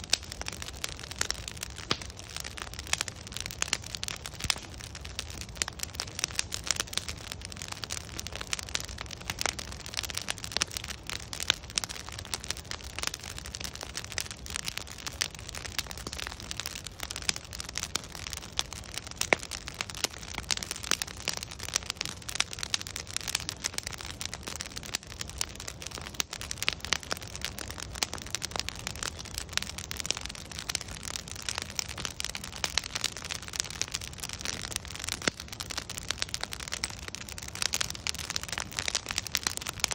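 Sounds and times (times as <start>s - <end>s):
logs crackling and popping: 0.0s - 39.9s
low rumble of flame: 0.0s - 39.9s.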